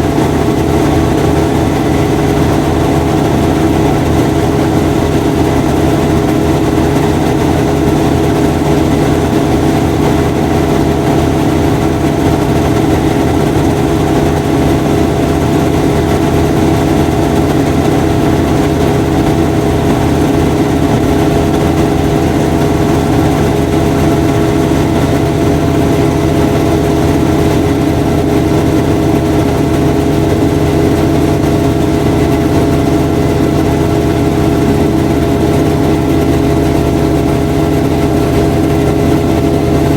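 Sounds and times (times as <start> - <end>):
constant whine: 0.0 - 39.9
washing machine motor hum: 0.0 - 39.9.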